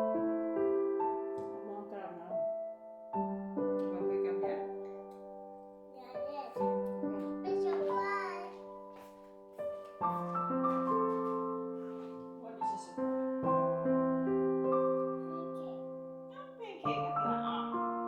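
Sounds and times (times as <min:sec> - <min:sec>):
slow gentle piano: 0:00.0 - 0:18.0.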